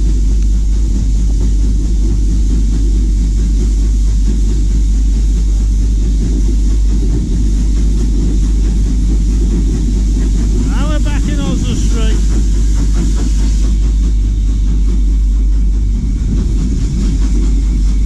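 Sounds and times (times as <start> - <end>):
train rumbling in motion: 0.0 - 18.0.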